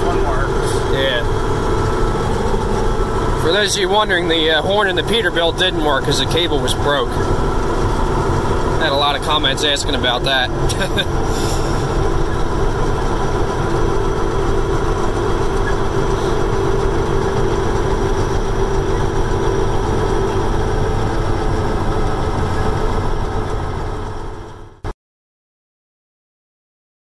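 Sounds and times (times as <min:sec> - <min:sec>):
diesel truck engine running: 0:00.0 - 0:24.9
road noise: 0:00.0 - 0:24.9.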